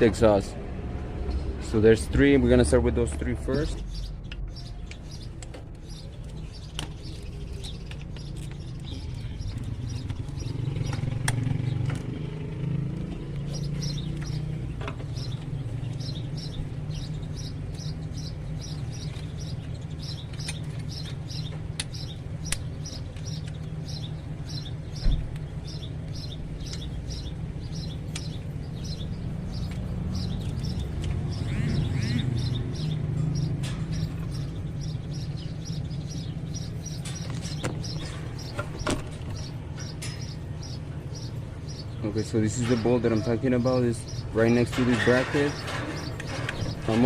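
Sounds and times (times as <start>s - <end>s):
small bird chirping: 3.8s - 47.0s.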